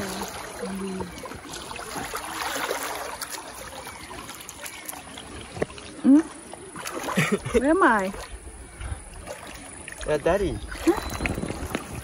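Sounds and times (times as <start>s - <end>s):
river water trickling over rocks: 0.0s - 12.0s.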